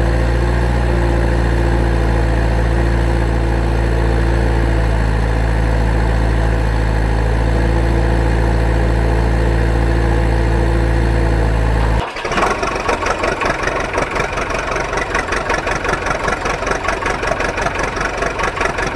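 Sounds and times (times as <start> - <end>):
engine idling drone: 0.0 - 18.9.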